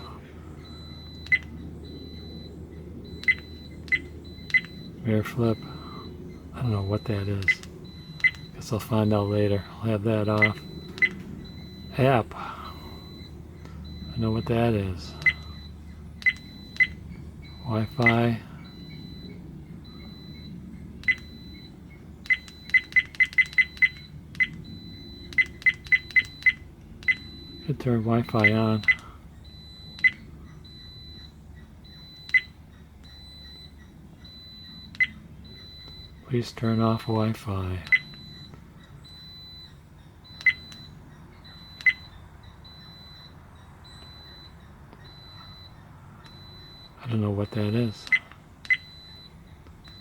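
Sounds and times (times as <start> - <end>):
short electronic beeps: 0.0 - 50.0.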